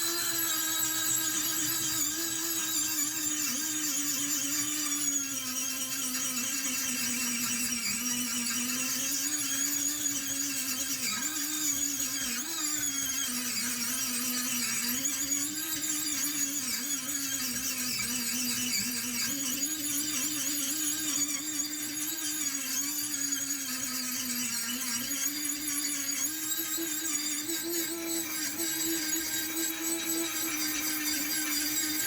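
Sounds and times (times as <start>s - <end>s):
power tool grinding metal: 0.0s - 32.0s.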